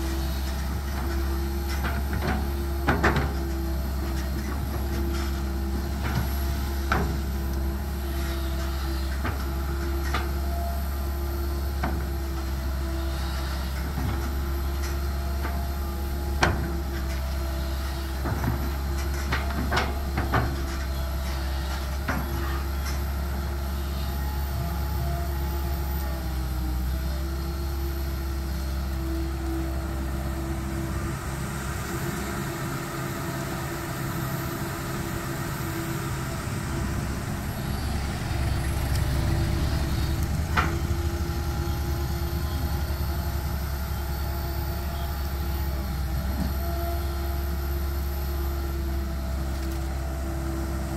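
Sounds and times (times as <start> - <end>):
excavator engine running: 0.0 - 50.9
hydraulic whine: 0.0 - 50.9.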